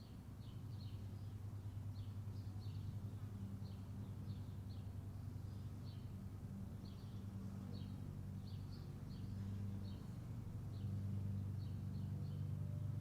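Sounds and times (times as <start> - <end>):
small bird chirping: 0.0 - 6.2, 6.8 - 12.6.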